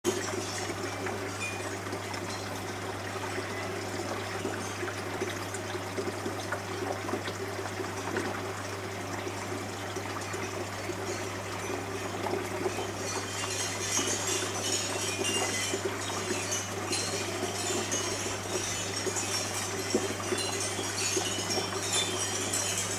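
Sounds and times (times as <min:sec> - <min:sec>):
water trickling: 0:00.1 - 0:22.9.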